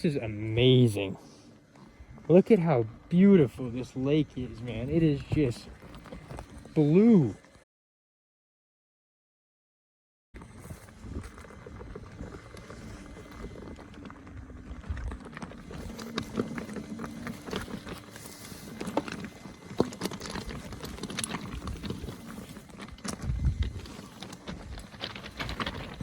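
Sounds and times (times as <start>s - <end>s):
steady motor hum: 0.0s - 7.6s, 10.4s - 26.0s
wheel rolling over rocky trail: 0.0s - 7.6s, 10.4s - 26.0s.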